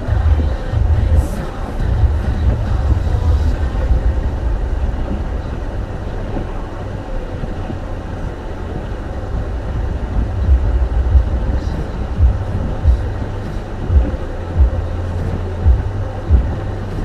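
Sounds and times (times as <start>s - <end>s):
car driving on snowy road: 0.0s - 17.0s.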